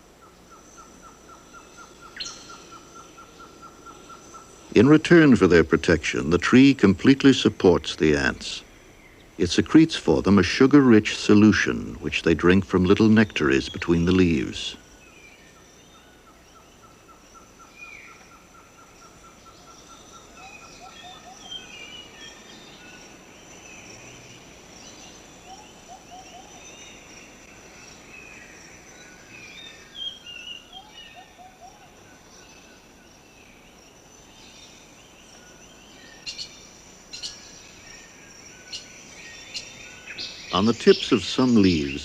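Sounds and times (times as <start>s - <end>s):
high insect drone: 0.0s - 42.0s
bird calls and chirps: 0.2s - 9.8s, 10.9s - 42.0s.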